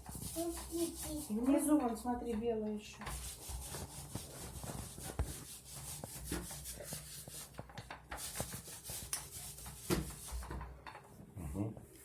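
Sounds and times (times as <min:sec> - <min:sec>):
paintbrush scrubbing a wall: 0:00.0 - 0:02.4, 0:03.0 - 0:10.6.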